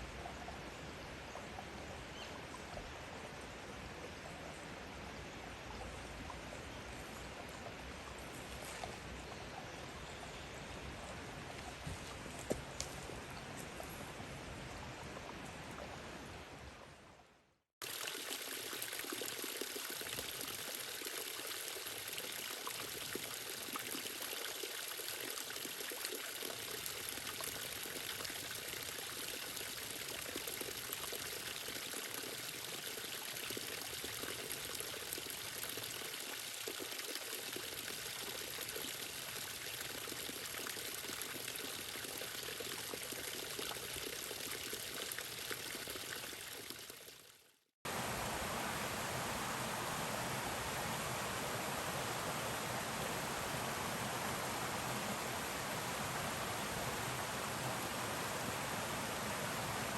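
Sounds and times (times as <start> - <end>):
flowing water rushing and trickling: 0.0 - 17.2, 17.8 - 59.9.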